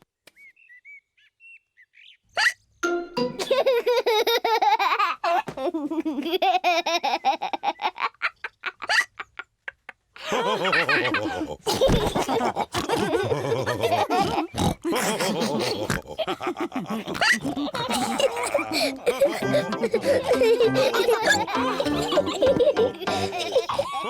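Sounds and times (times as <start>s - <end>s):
cartoon pigs laughing with snorts: 3.4s - 24.0s.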